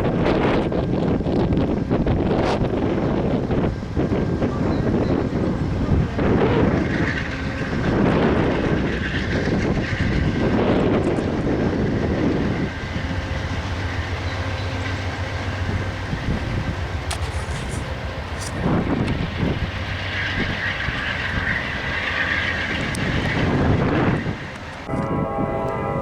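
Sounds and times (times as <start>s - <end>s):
train moving on rails: 0.0s - 26.0s
wind gusts buffeting microphone: 0.0s - 26.0s.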